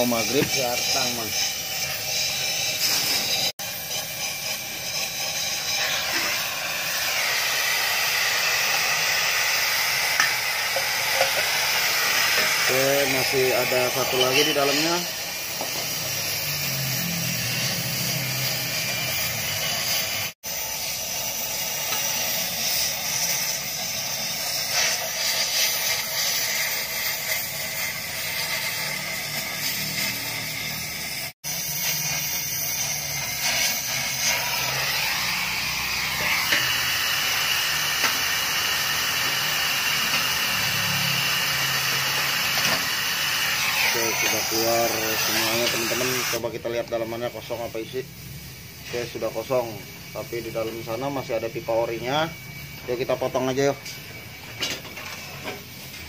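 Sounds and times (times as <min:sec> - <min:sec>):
cutting torch flame hissing: 0:00.0 - 0:56.0.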